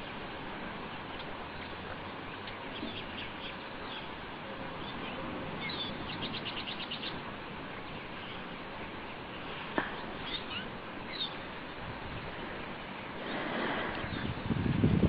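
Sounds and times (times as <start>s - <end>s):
small birds chirping: 0.0s - 14.4s
background hiss: 0.0s - 15.0s.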